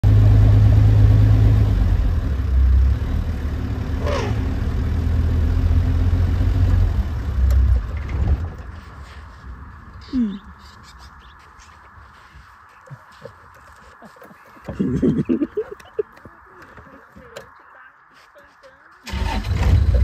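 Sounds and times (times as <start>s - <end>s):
vehicle engine idling: 0.0s - 17.8s, 19.0s - 20.0s.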